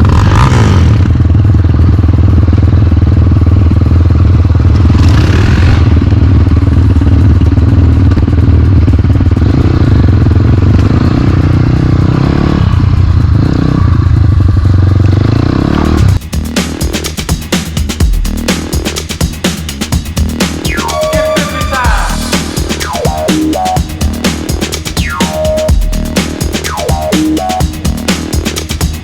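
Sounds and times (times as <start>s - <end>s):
motorcycle engine running: 0.0s - 20.8s, 21.8s - 29.0s.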